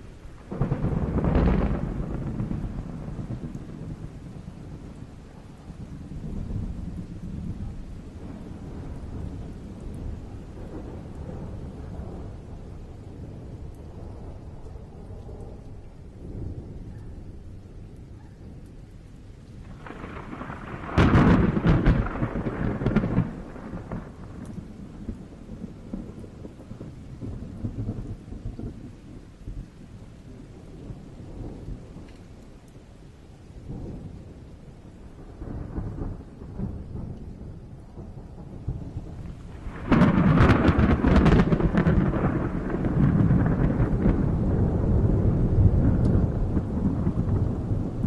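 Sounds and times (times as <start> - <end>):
thunder crack and rumble: 0.0 - 32.9, 33.6 - 48.0.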